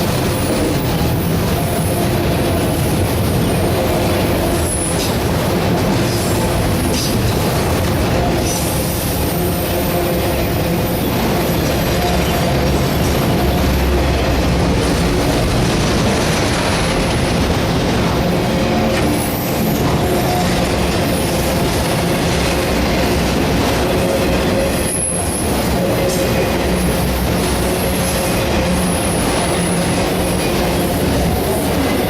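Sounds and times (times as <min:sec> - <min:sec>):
steel wheel squeal: 0:00.0 - 0:15.5, 0:18.1 - 0:32.0
freight train rolling past: 0:00.0 - 0:32.0.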